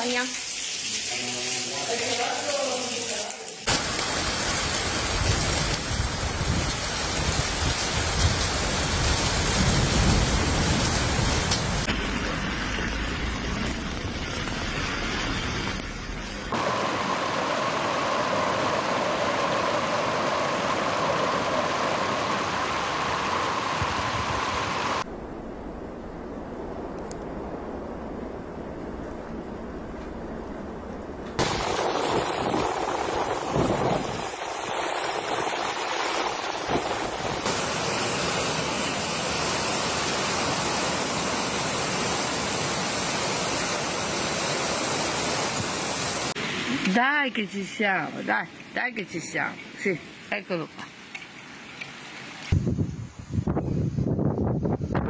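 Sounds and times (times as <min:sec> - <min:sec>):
floodwater rushing: 0:00.0 - 0:25.1, 0:31.4 - 0:52.6.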